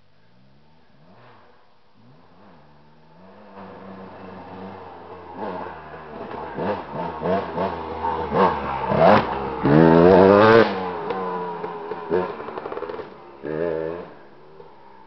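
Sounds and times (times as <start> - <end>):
dirt bike engine revving: 1.0 - 15.0.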